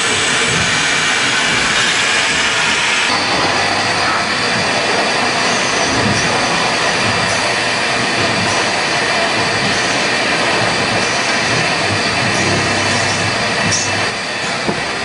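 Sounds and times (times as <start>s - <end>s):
lathe machining: 0.0s - 15.0s.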